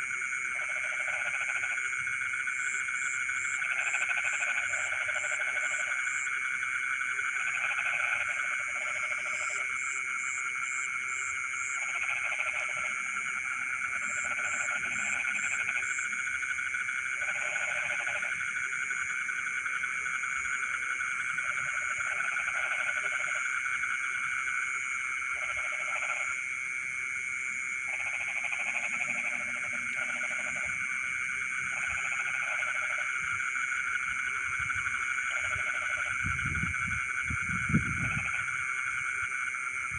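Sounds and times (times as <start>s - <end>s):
chorus of frogs trilling: 0.0s - 39.9s
frogs croaking: 0.0s - 39.9s.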